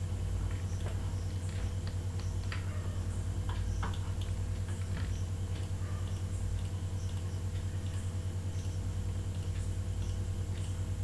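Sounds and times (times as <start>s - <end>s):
low fluttering hum: 0.0s - 11.0s.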